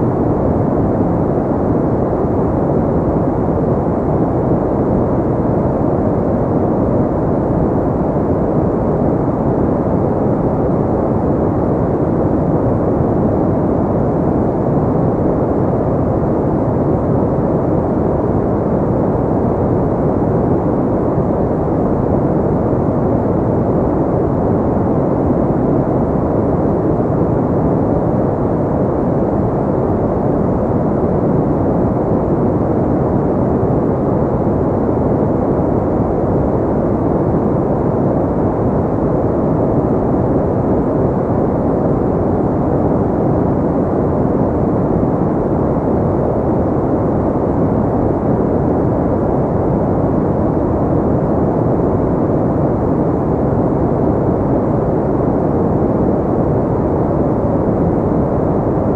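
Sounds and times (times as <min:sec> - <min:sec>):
steady pink noise: 0:00.0 - 0:58.9.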